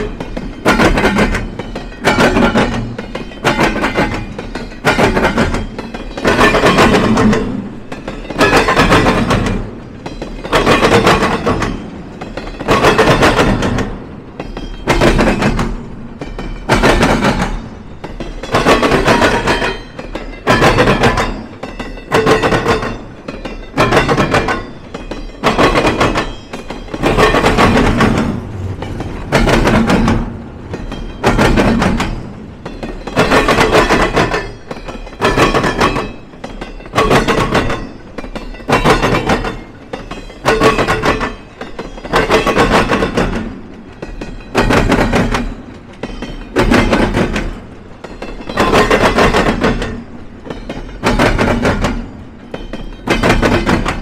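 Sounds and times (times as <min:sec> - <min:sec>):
train wheels clattering over crossing: 0:00.0 - 0:54.0.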